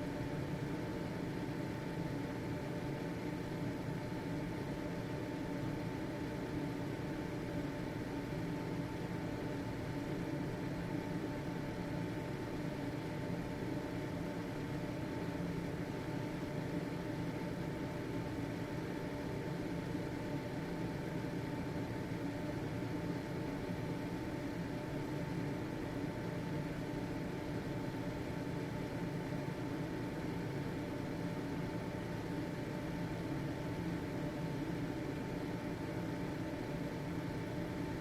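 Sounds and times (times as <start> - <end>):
ventilation fan whining hum: 0.0 - 38.0.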